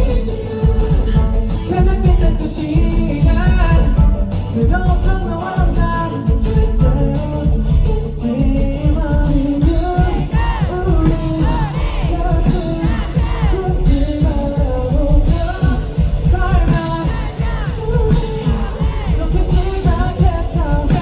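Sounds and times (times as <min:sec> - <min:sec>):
lead singing: 0:00.0 - 0:21.0
rock band playing live: 0:00.0 - 0:21.0.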